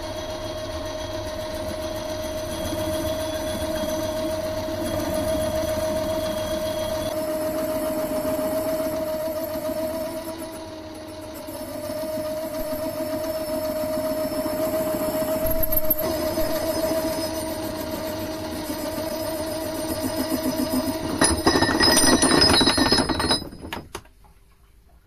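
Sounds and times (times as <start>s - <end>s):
metal lathe motor humming: 0.0s - 23.9s.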